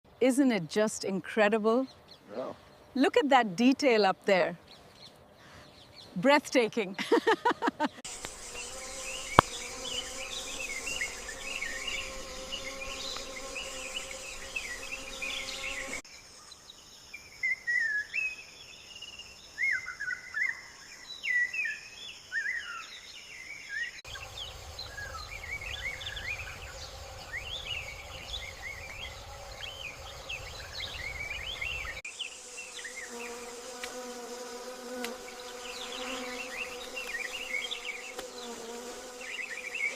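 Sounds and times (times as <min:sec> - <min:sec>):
insects buzzing drone: 0:07.2 - 0:39.9
insect chirps: 0:07.5 - 0:39.9.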